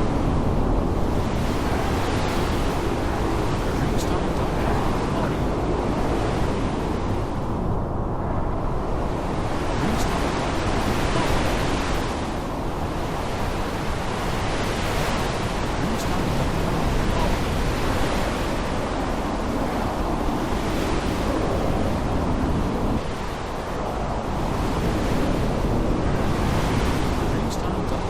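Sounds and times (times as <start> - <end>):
heavy rain: 0.0 - 28.0
wind: 0.0 - 28.0.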